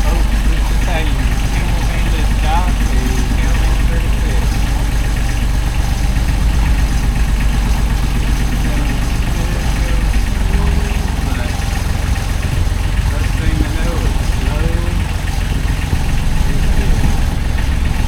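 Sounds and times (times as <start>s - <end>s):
boat diesel engine idling: 0.0s - 18.0s.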